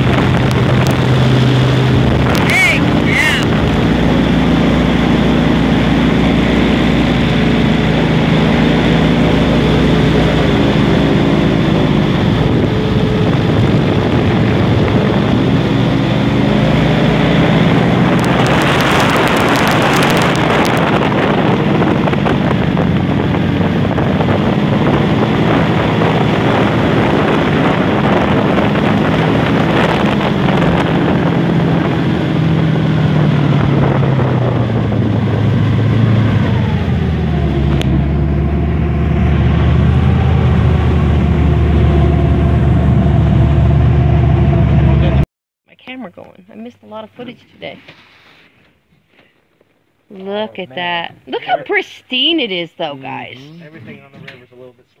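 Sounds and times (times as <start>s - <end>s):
airboat engine and propeller: 0.0s - 45.2s
wind buffeting microphone: 0.0s - 45.2s.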